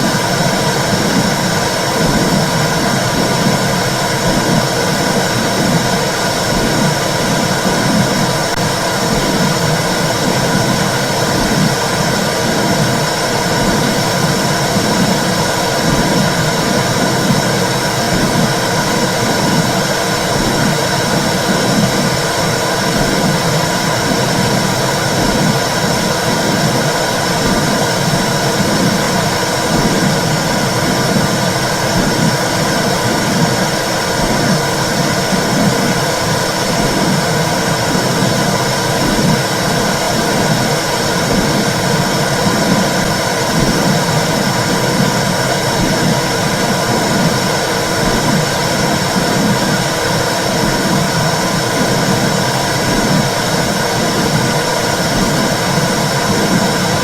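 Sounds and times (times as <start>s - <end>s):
low whooshing pulse: 0.0s - 57.0s
steady rushing hiss: 0.0s - 57.0s.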